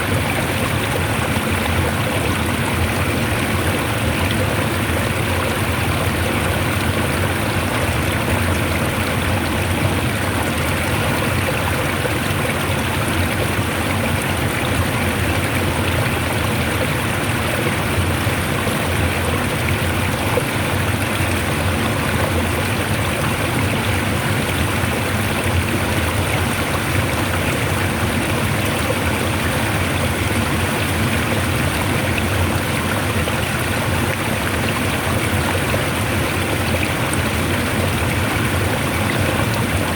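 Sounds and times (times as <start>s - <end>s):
water flowing strongly: 0.0s - 39.9s.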